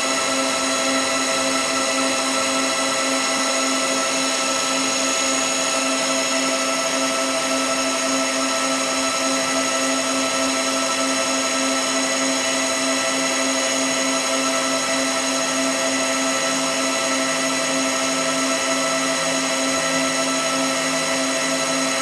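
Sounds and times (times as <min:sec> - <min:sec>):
machine whirring and whining: 0:00.0 - 0:22.0.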